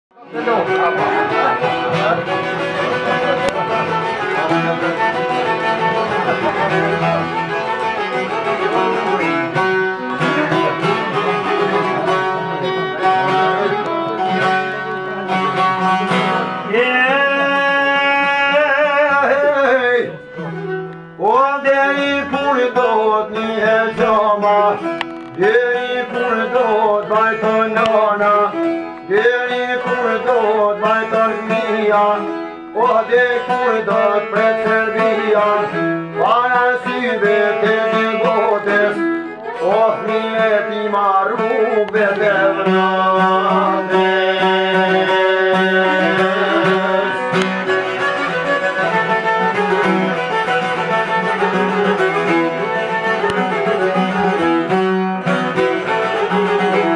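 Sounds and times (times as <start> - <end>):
bowed fiddle: 0.1 - 56.9
plucked lute: 0.1 - 56.9.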